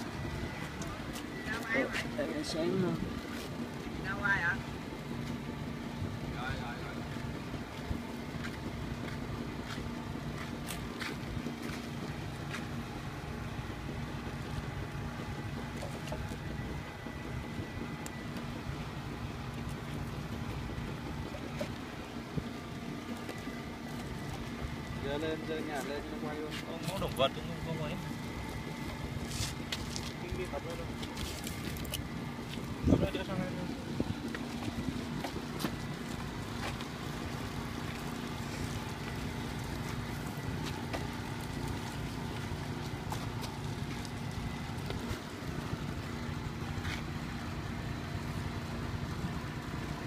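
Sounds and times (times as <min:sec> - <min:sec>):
faint constant whine: 0:00.0 - 0:50.0
low engine drone: 0:00.0 - 0:50.0.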